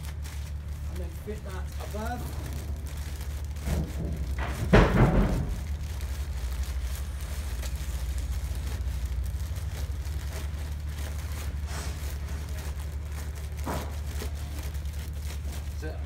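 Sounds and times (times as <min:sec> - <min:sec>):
low hum: 0:00.0 - 0:16.0
plastic rustling and crinkling: 0:00.0 - 0:16.0.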